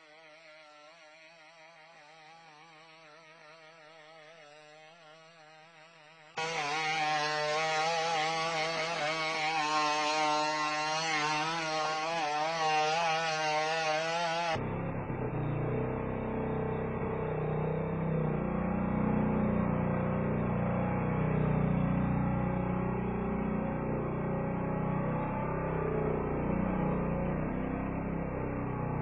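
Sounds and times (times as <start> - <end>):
robot engine buzzing drone: 0.0 - 29.0.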